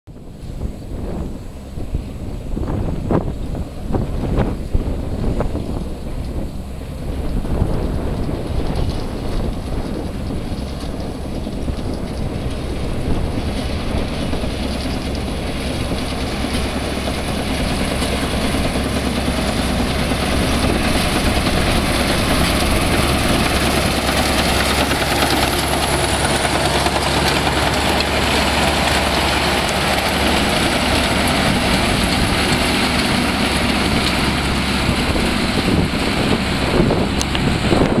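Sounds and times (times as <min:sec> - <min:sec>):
windrower engine hum: 0:00.1 - 0:38.0
cutting header rattle: 0:04.0 - 0:38.0.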